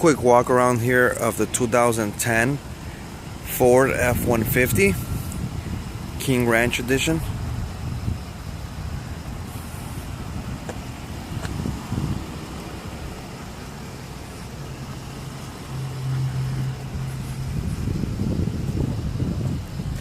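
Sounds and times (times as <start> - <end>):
motor vehicle rumble: 0.0 - 20.0.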